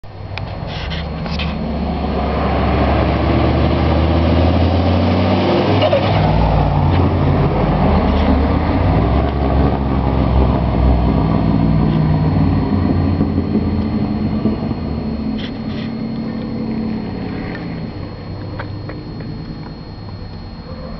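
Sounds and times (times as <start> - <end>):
car engine running while driving: 0.0 - 20.9.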